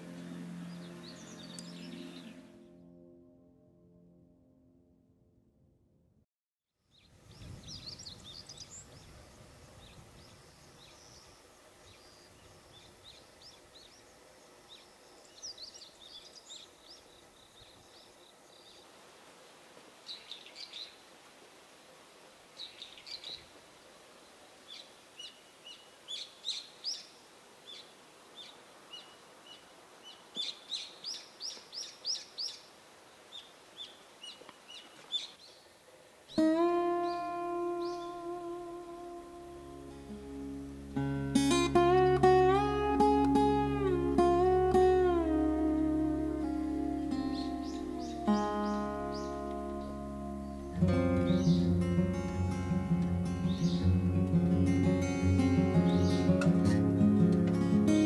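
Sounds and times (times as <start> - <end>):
small birds chirping: 0.0 - 2.5, 6.9 - 18.9, 20.0 - 21.1, 22.5 - 40.8, 41.5 - 58.0
faint outdoor background noise: 0.0 - 3.3, 6.7 - 58.0.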